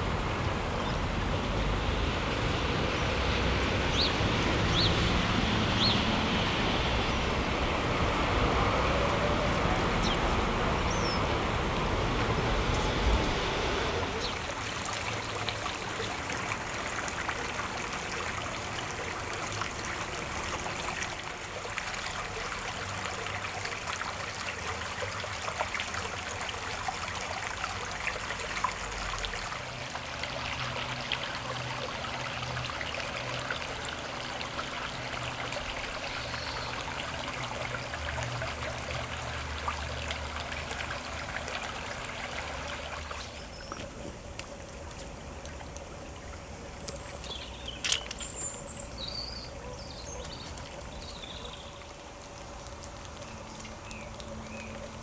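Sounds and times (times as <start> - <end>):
floodwater rushing and trickling: 0.0 - 55.0.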